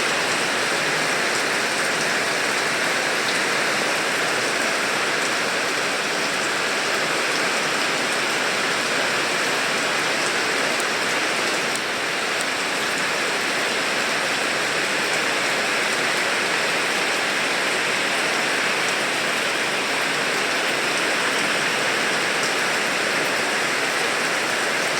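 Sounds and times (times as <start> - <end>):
steady rain: 0.0 - 24.9.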